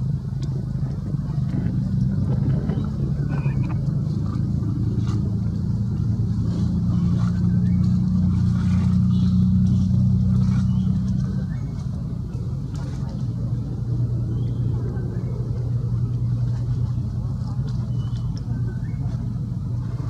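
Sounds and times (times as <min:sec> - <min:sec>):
motor engine humming: 0:00.0 - 0:20.0.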